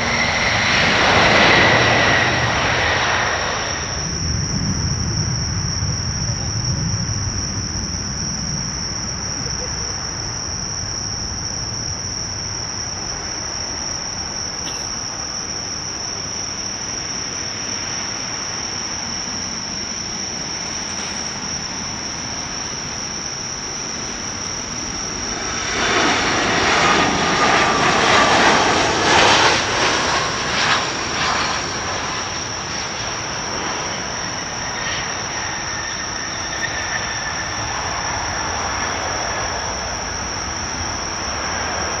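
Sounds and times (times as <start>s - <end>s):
crickets chirring: 0.0s - 42.0s
jet engines whining: 0.0s - 42.0s.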